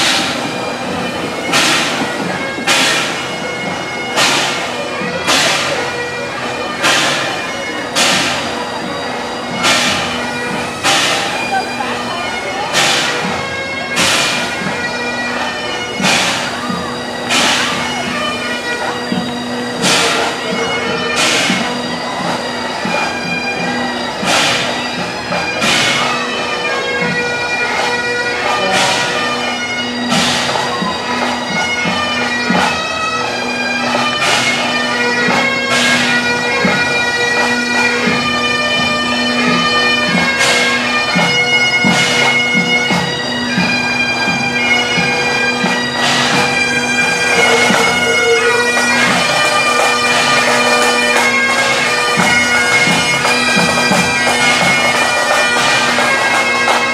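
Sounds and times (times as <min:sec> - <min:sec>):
bagpipes playing a tune: 0:00.0 - 0:56.9.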